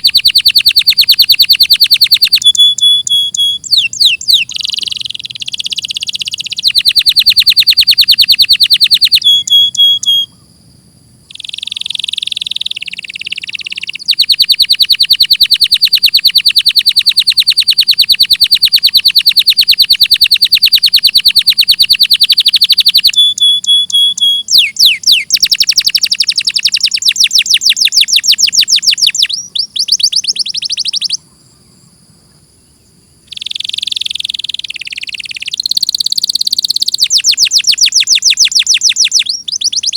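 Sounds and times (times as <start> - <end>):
canary singing trills: 0.0 - 10.5, 11.2 - 31.8, 32.6 - 39.9.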